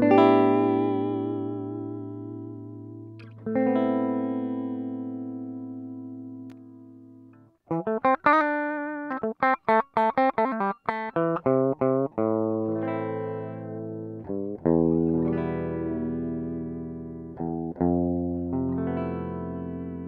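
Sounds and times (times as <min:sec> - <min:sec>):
electric guitar notes: 0:00.0 - 0:20.0.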